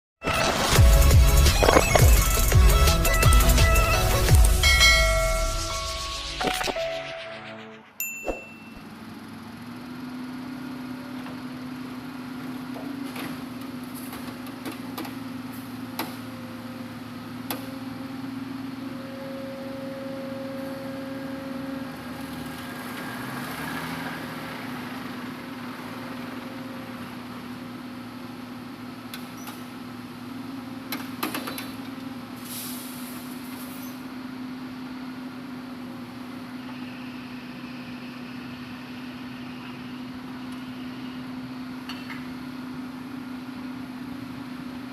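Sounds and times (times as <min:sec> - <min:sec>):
excavator diesel engine running: 0:00.3 - 0:08.0, 0:08.8 - 0:31.2, 0:34.0 - 0:44.9.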